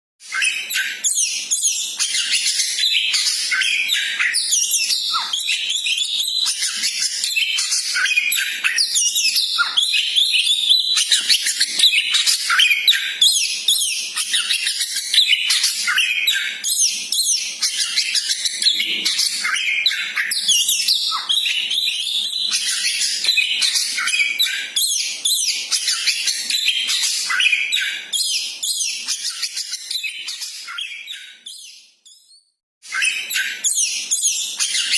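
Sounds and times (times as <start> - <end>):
songbird chirping and trilling: 0.2 - 34.9.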